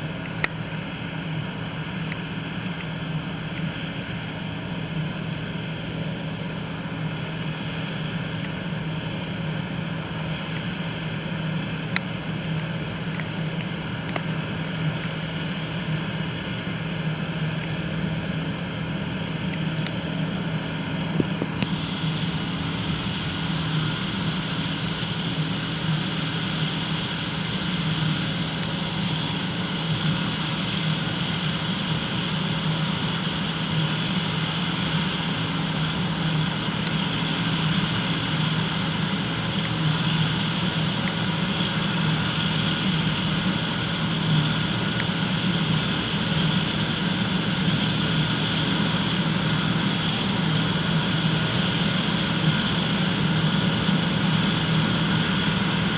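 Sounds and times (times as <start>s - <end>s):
combine harvester engine drone: 0.0s - 55.9s.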